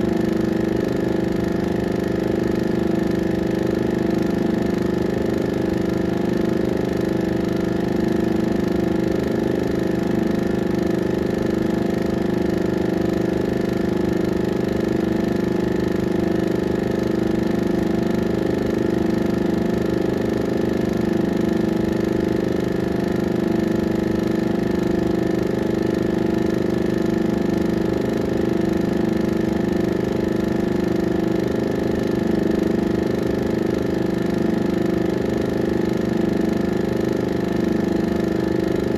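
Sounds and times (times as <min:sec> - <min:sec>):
film projector running: 0:00.0 - 0:38.9.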